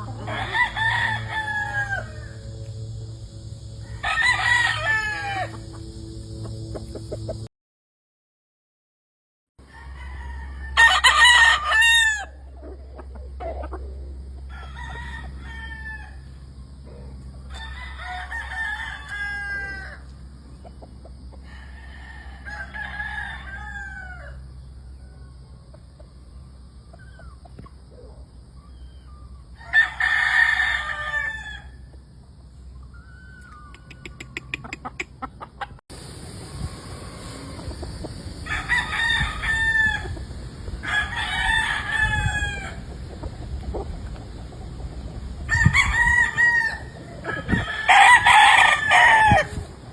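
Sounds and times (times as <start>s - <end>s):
roosters crowing: 0.0s - 6.4s, 9.6s - 25.7s, 28.0s - 32.0s, 36.1s - 49.9s
steady low hum: 0.0s - 7.5s, 9.7s - 29.7s, 31.6s - 49.9s.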